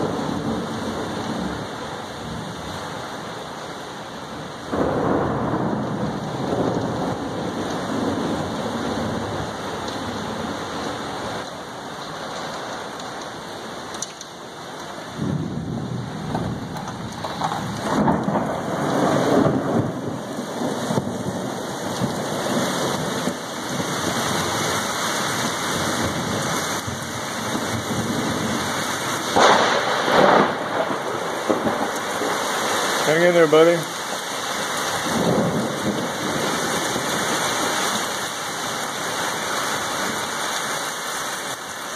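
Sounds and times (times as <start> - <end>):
thunder rumbling: 0.0 - 3.3, 4.2 - 11.4, 15.0 - 40.4
heavy rain falling: 0.0 - 41.9.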